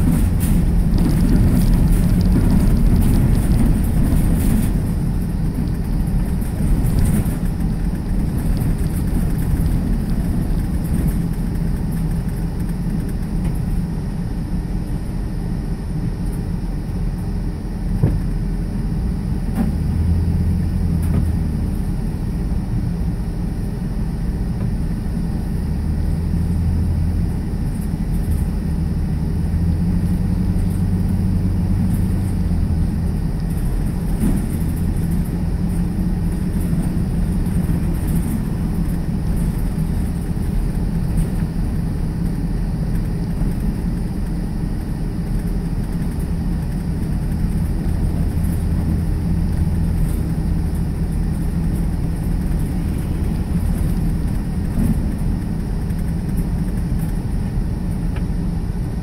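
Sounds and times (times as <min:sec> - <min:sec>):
car engine and tyres rumbling: 0:00.0 - 0:59.0
low hum: 0:00.0 - 0:59.0.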